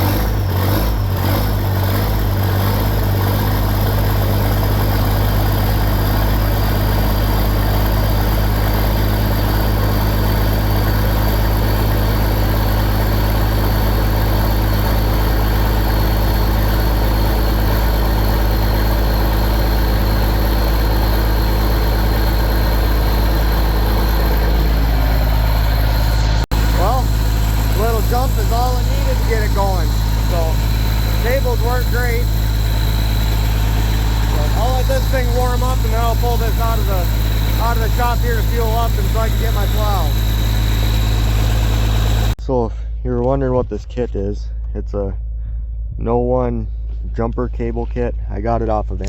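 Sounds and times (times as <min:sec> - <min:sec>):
diesel engine idling: 0:00.0 - 0:43.4.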